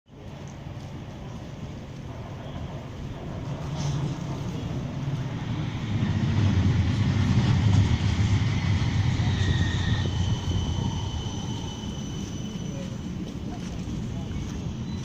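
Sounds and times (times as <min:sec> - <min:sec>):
tram rumbling past: 0:00.1 - 0:15.0.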